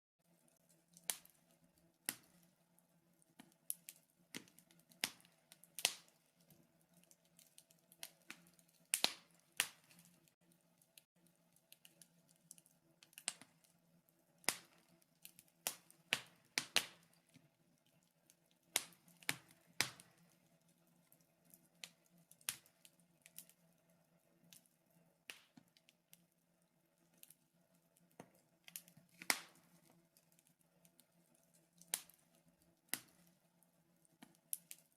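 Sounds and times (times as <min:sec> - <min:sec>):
wood fire crackling and popping: 0:00.3 - 0:34.9.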